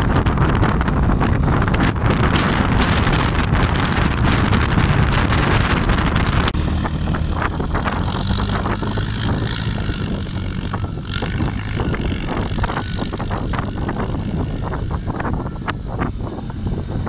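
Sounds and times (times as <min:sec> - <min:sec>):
quad engine running hard: 0:00.0 - 0:17.0
wind buffeting microphone: 0:00.0 - 0:17.0.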